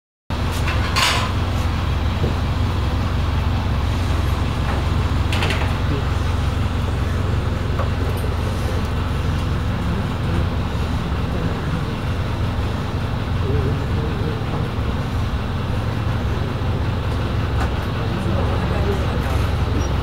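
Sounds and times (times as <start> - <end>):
diesel engine rumbling: 0.3 - 20.0.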